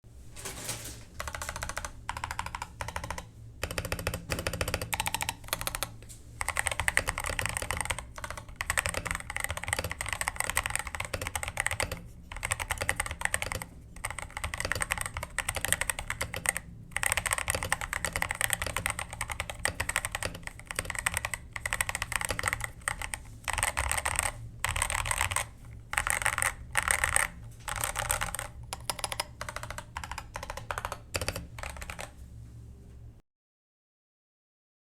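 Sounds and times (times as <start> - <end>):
mechanical keyboard typing: 1.2 - 32.2.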